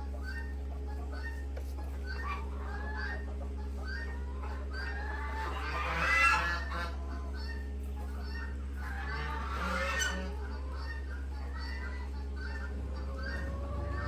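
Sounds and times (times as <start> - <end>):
poultry honking: 0.0 - 14.0.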